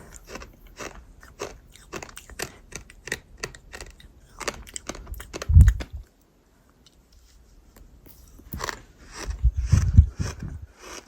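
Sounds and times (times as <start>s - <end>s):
crunchy chewing: 0.0s - 6.2s, 8.1s - 11.0s.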